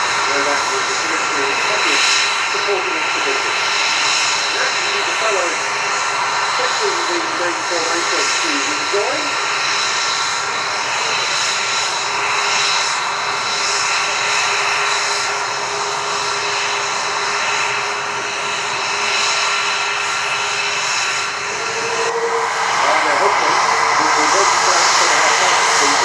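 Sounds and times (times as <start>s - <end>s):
high turbine whine: 0.0s - 26.0s
jet engines idling: 0.0s - 26.0s.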